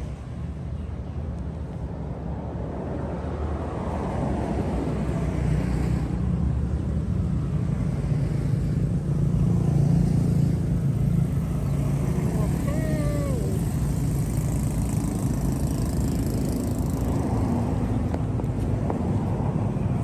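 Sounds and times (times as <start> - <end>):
vehicle engine low rumble: 0.0 - 20.0.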